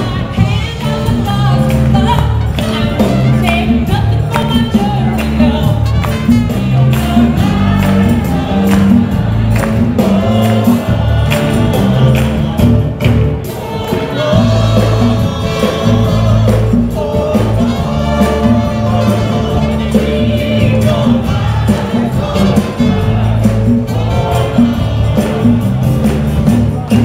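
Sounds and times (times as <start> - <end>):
band playing upbeat song: 0.0 - 27.0
many voices singing along: 4.2 - 27.0.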